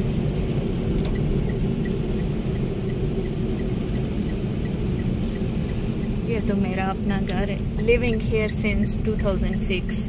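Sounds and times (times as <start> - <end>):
car driving on wet road: 0.0 - 10.0
faint regular ticking: 0.2 - 10.0.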